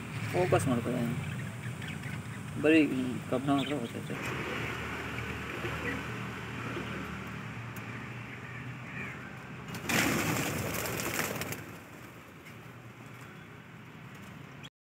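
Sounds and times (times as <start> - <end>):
cage birds chirping: 0.0 - 9.8, 10.4 - 14.7.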